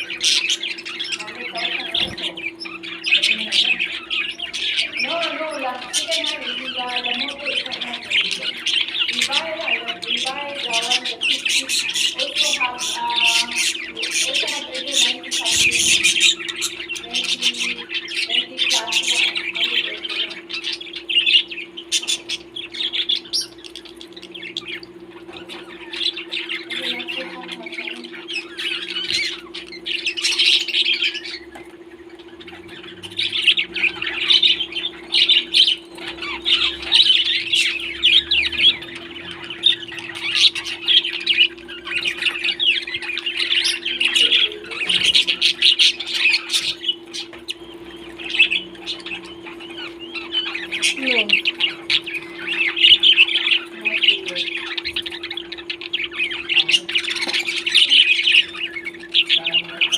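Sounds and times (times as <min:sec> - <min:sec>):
parrots squawking: 0:00.0 - 0:59.9
steady low hum: 0:00.0 - 0:59.9.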